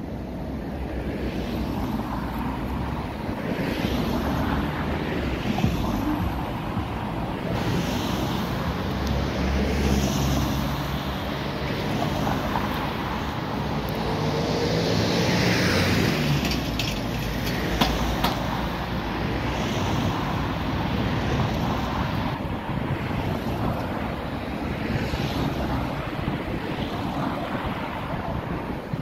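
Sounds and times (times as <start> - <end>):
cars and vans driving past: 0.0 - 29.0.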